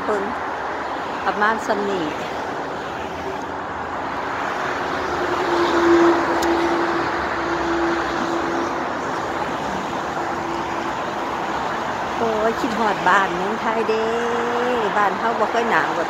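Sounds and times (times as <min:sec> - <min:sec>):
motorway traffic: 0:00.0 - 0:16.0.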